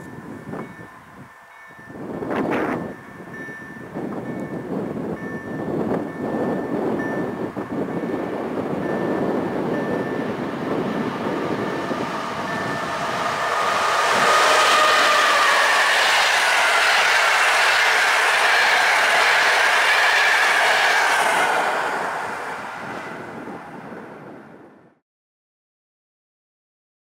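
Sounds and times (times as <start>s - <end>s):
train wheels rolling on rails: 0.0s - 24.7s
locomotive high whining tone: 0.0s - 24.9s.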